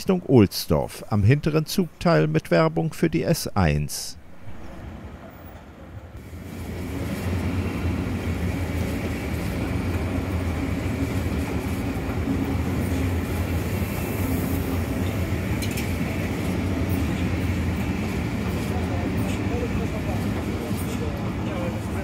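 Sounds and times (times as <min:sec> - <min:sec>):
trains rolling rumble: 0:00.0 - 0:22.0.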